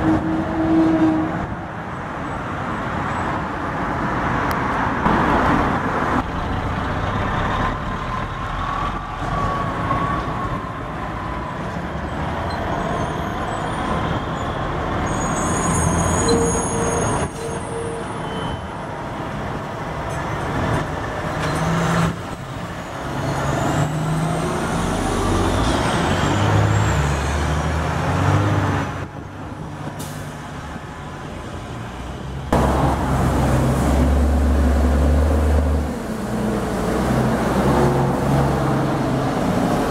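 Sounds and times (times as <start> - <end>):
diesel trucks driving past: 0.0 - 39.9
street traffic: 0.0 - 39.9.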